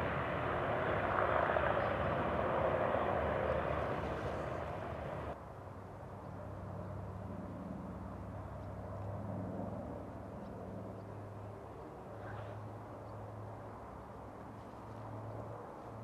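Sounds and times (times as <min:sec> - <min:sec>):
distant propeller plane engine drone: 0:00.0 - 0:16.0.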